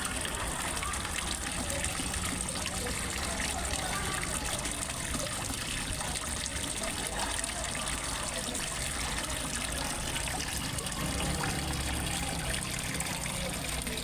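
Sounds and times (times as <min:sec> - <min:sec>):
small waterfall trickling and splashing: 0:00.0 - 0:14.0.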